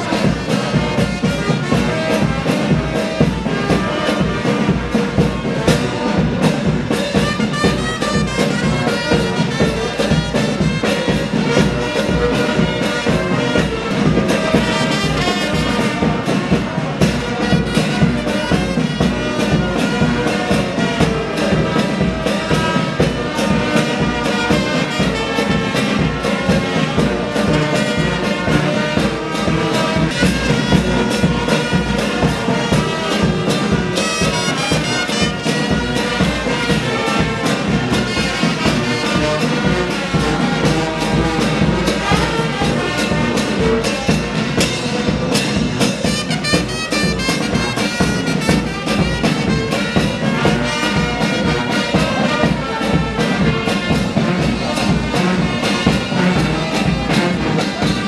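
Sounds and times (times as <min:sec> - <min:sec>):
brass band music: 0:00.0 - 0:58.0
steady drum beat: 0:00.0 - 0:58.0.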